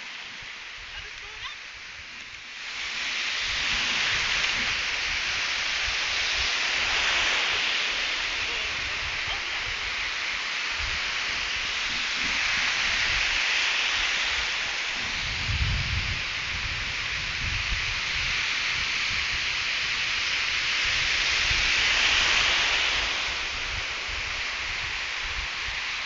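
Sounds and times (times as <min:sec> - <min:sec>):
waves breaking on beach: 0:00.0 - 0:26.0.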